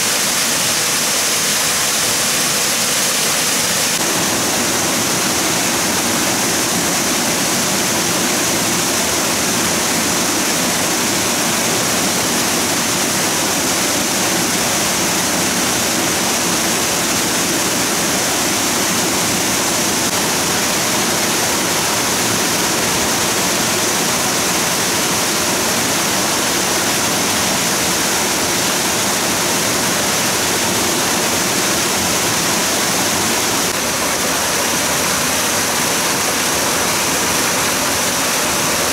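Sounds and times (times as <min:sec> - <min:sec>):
rushing flowing water: 0:00.0 - 0:38.9.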